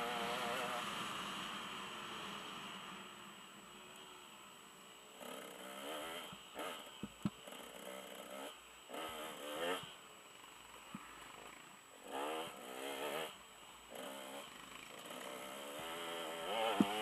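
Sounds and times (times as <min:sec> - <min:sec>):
motorcycle engine revving: 0:00.0 - 0:03.2, 0:05.1 - 0:17.0.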